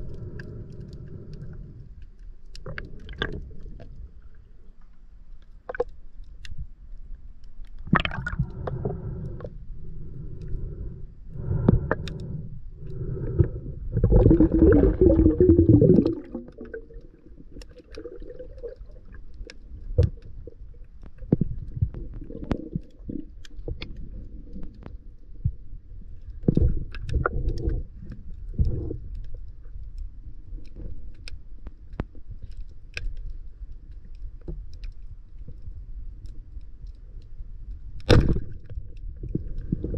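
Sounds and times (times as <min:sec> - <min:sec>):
underwater gurgling and bubbles: 0:00.0 - 0:39.9.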